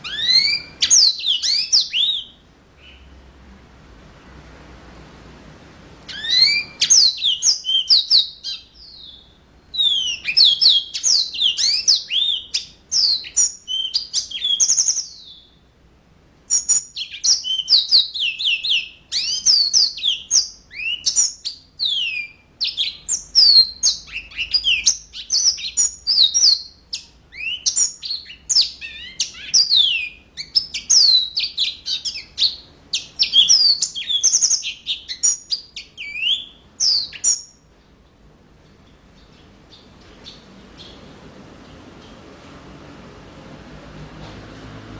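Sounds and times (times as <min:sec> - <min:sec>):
canary singing: 0:00.0 - 0:03.3, 0:06.0 - 0:15.7, 0:16.5 - 0:37.7, 0:39.0 - 0:41.3.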